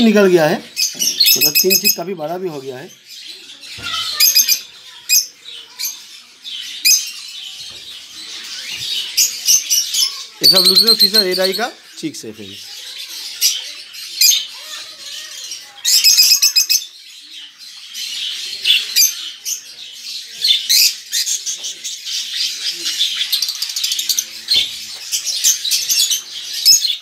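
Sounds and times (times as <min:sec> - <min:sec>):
birds chirping and squawking: 0:00.0 - 0:27.0.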